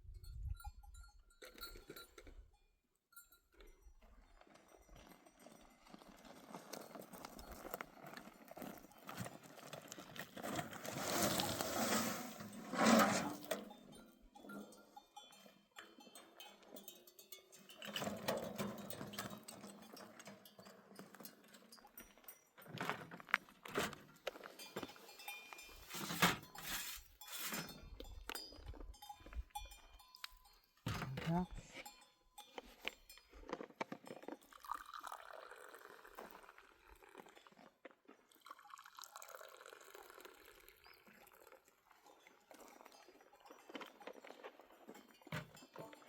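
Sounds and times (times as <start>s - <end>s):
sheep bells clinking: 0.0s - 10.3s, 13.4s - 35.0s, 40.7s - 46.0s.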